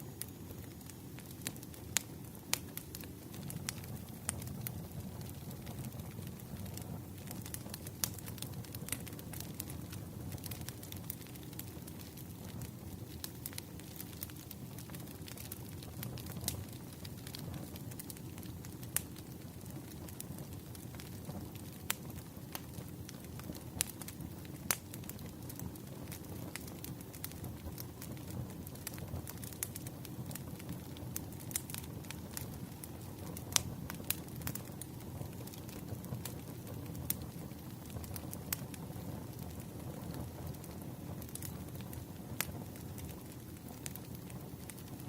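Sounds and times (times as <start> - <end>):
low rumble of flames: 0.0 - 45.0
wood fire crackling and popping: 0.0 - 45.0.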